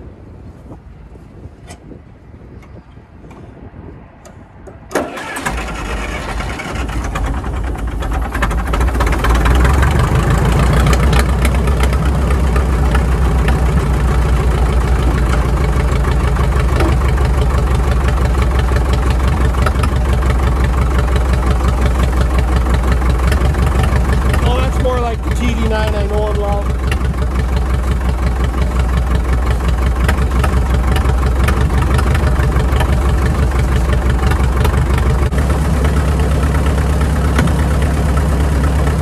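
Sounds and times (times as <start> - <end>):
diesel engine starting: 4.2 - 39.0.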